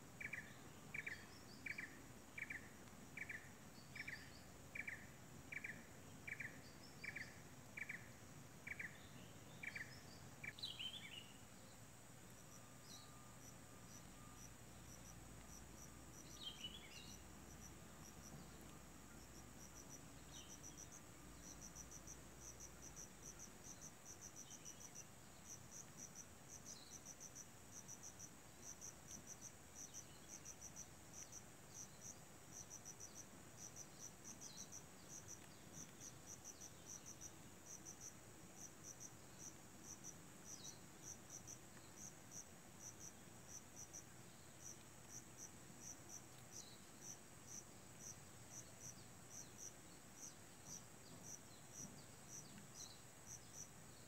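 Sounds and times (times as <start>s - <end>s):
constant high hiss: 0.0s - 54.0s
faint insect chirping: 0.0s - 54.0s.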